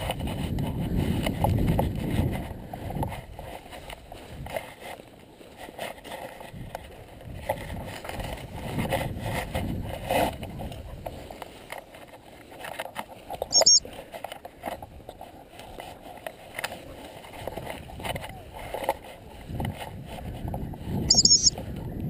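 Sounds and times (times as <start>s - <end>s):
footsteps through dry grass: 0.0s - 22.0s.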